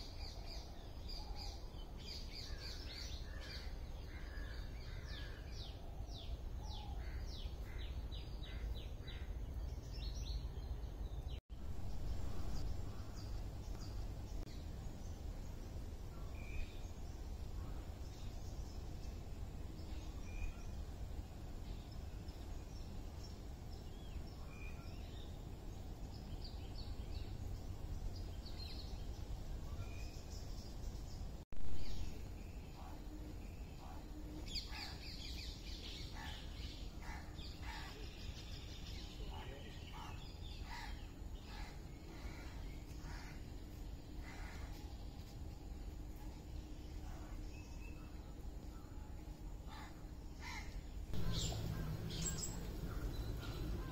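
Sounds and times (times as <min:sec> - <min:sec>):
low steady rumble: 0:00.0 - 0:53.9
small birds chirping: 0:00.0 - 0:53.9.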